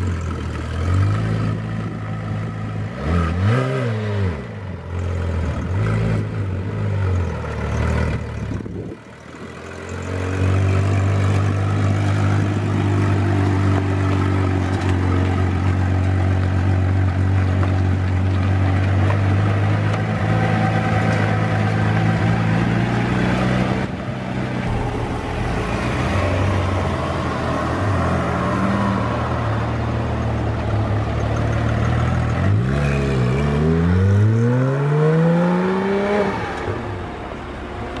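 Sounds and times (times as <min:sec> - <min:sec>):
car engine idling and accelerating: 0:00.0 - 0:38.0.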